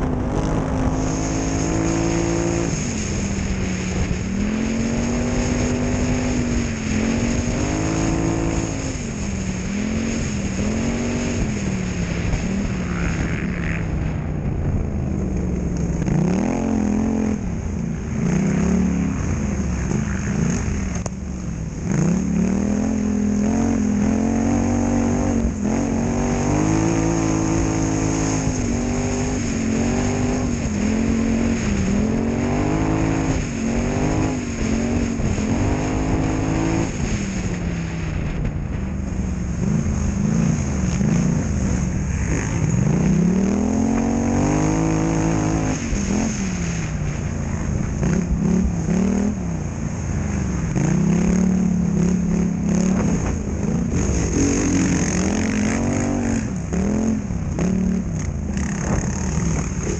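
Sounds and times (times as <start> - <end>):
quad engine revving: 0.0 - 14.1, 15.4 - 38.5, 39.4 - 49.7, 50.5 - 59.9.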